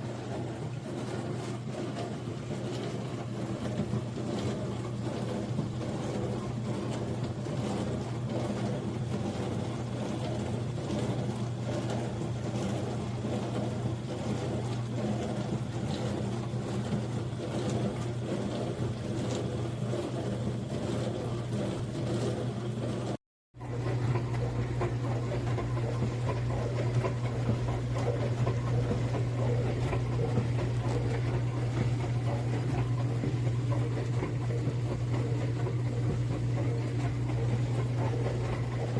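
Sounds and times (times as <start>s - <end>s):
dishwasher pump motor hum: 0.0s - 38.9s.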